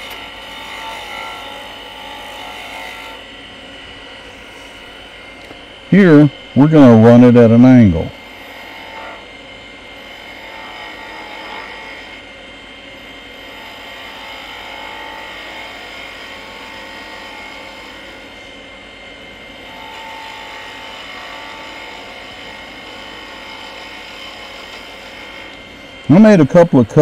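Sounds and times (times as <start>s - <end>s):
gouge cutting spinning wood: 0.0s - 27.0s
wood lathe motor hum and whine: 0.0s - 27.0s.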